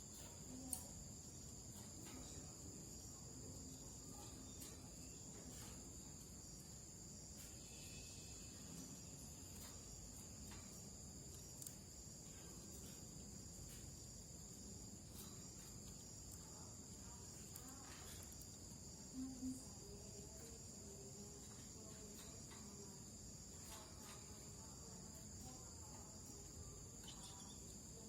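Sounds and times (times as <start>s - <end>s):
crickets chirring: 0.0s - 28.0s.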